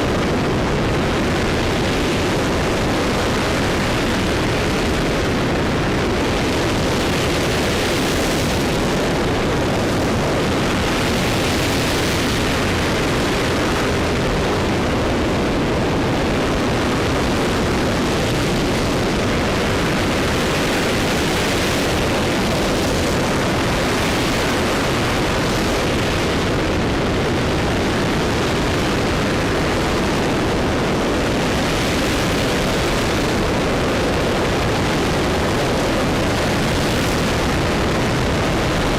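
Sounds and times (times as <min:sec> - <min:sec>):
rocket engine roaring: 0:00.0 - 0:38.9.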